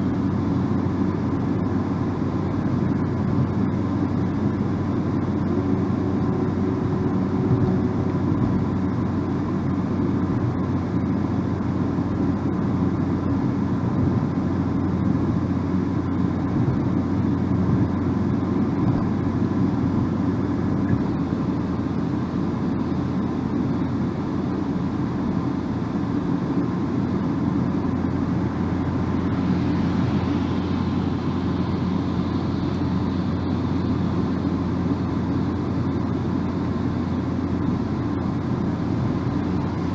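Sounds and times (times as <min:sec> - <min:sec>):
low car engine hum: 0:00.0 - 0:39.9
road and tyre noise: 0:00.0 - 0:39.9.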